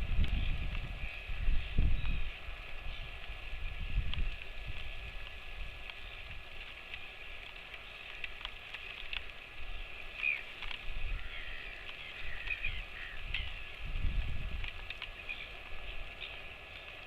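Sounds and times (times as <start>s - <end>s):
rain hissing: 0.0s - 17.0s
wind rumble on microphone: 0.0s - 17.0s
water drips ticking: 2.0s - 17.0s.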